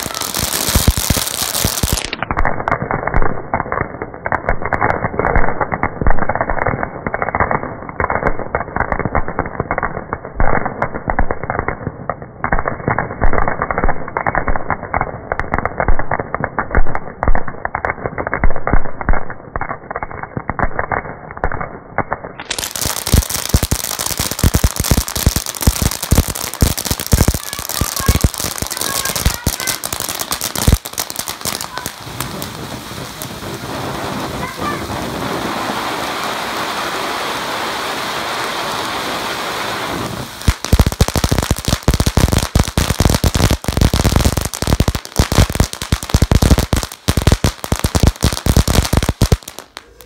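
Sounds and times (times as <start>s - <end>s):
firecrackers banging and crackling: 0.0s - 50.0s.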